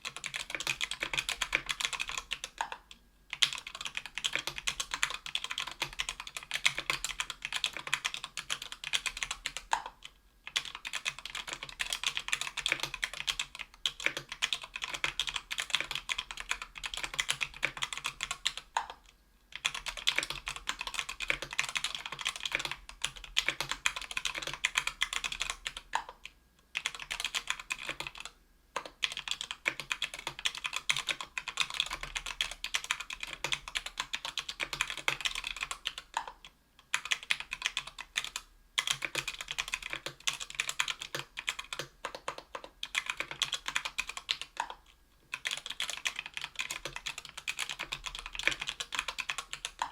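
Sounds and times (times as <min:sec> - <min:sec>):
keyboard typing: 0:00.0 - 0:49.9.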